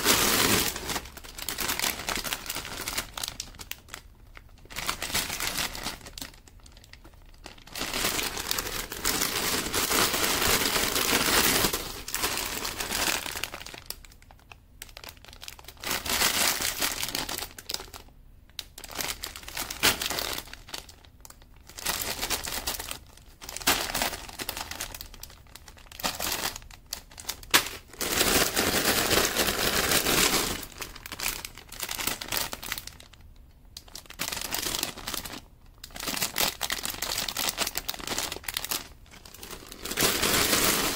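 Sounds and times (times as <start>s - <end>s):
plastic bags crinkling: 0.0s - 40.9s.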